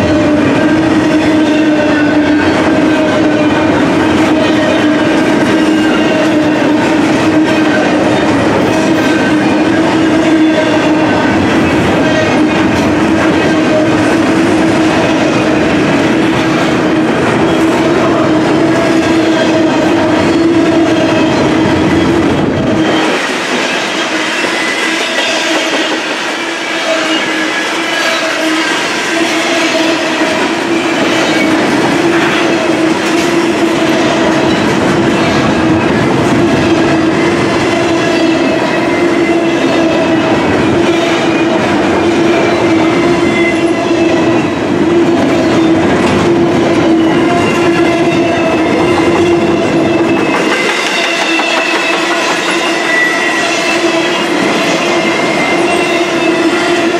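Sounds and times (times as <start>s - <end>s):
clickety-clack over rail joints: 0.0s - 56.9s
freight train wheels on rail: 0.0s - 56.9s.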